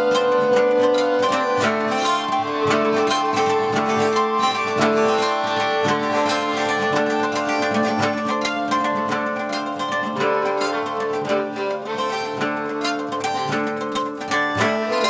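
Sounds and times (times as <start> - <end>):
bowed violin melody: 0.0 - 15.0
plucked string accompaniment: 0.0 - 15.0.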